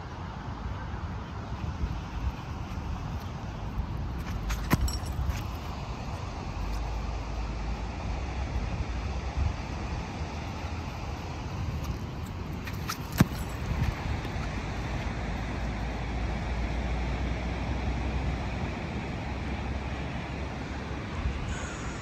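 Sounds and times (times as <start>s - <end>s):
distant road traffic: 0.0s - 22.0s.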